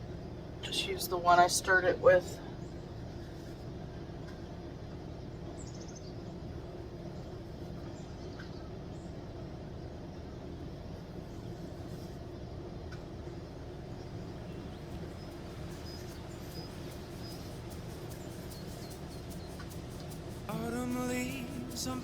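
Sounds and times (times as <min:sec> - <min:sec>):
low outdoor background rumble: 0:00.0 - 0:22.0.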